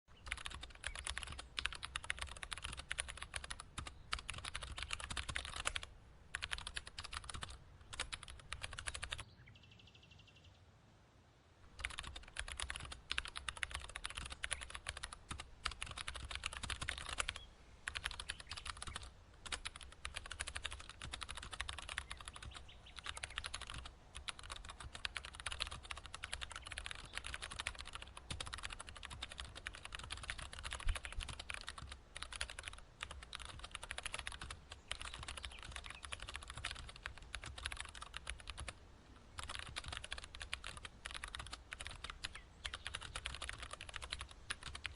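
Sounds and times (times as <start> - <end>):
keyboard typing: 0.2 - 9.2, 11.7 - 44.9.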